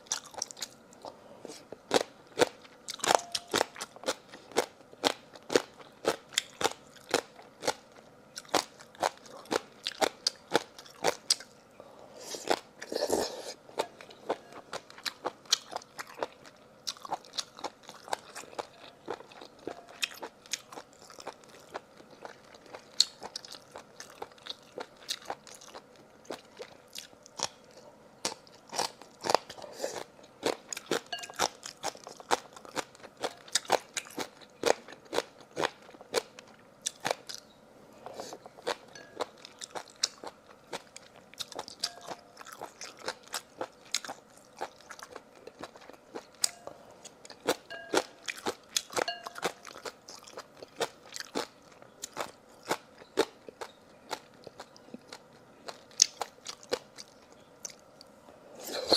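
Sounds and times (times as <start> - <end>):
crunching and chewing food: 0.0 - 58.9.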